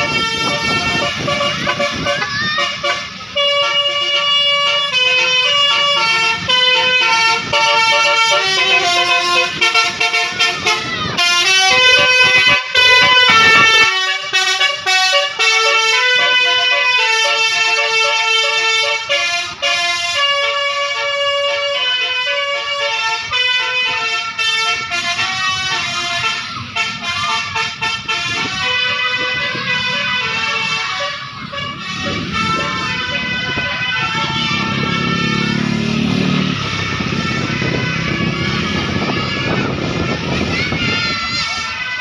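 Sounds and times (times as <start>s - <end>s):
musical bus air horn: 0.0s - 42.0s.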